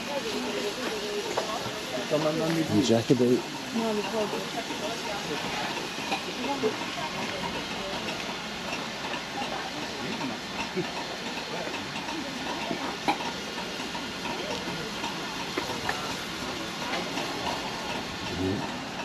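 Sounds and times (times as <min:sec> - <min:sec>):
faint voices: 0:00.0 - 0:19.0
steam locomotive hissing: 0:00.0 - 0:19.0.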